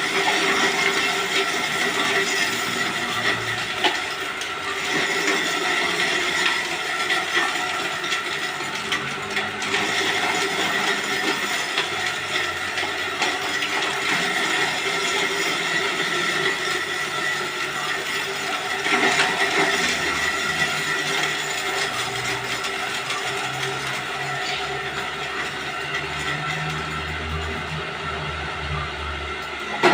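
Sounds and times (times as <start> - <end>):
forage chopper motor whine: 0.0 - 29.9.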